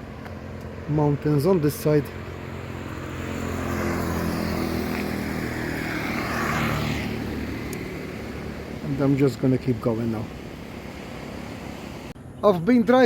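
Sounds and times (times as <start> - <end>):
motor vehicle passing: 0.0 - 12.2.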